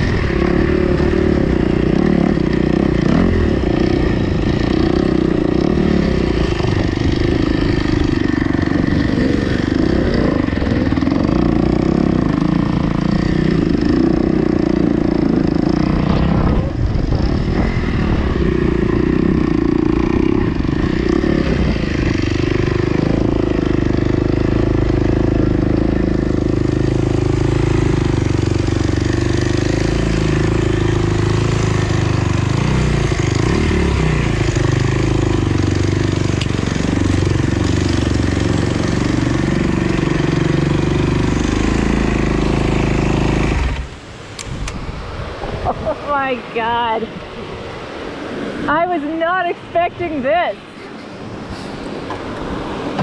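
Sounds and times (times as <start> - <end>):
dirt bike engine revving: 0.0 - 44.4.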